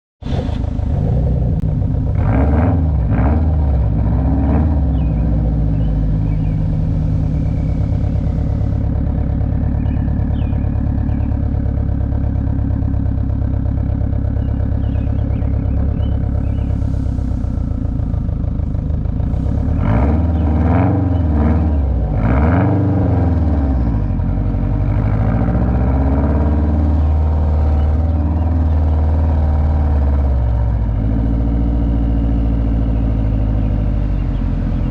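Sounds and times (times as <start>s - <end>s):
car engine drone: 0.2s - 34.9s.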